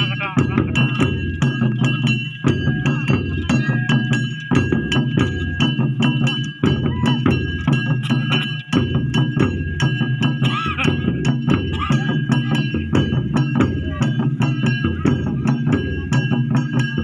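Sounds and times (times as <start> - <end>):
deep drum pulse: 0.0 - 17.0
held high tone: 0.0 - 17.0
sharp percussion strikes: 0.0 - 17.0.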